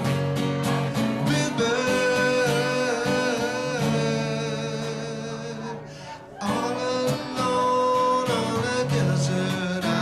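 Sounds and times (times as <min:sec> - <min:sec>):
guitar chords: 0:00.0 - 0:10.0.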